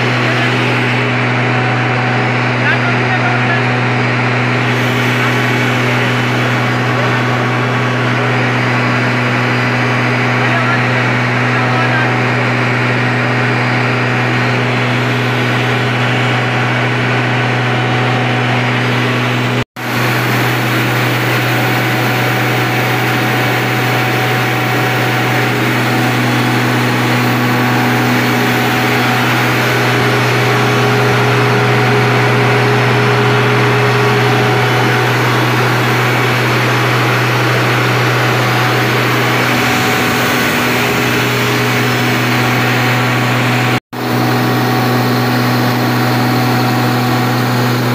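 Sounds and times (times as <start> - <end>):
deep steady hum: 0.0 - 47.9
diesel generator engine drone: 0.0 - 47.9.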